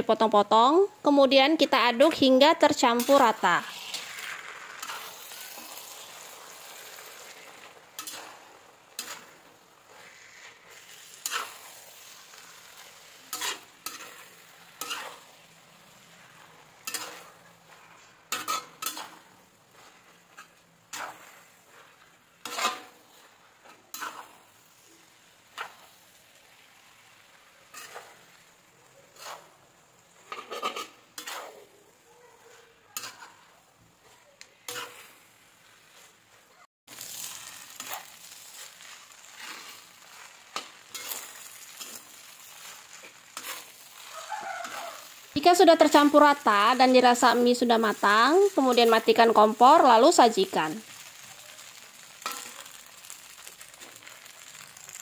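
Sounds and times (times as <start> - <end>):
faint sizzle: 0.0 - 55.0
metal spatula scraping a wok: 1.9 - 55.0.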